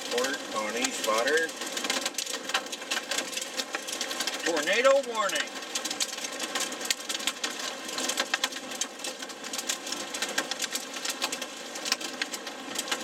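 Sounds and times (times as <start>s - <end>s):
rain and hail on car roof: 0.0s - 13.0s.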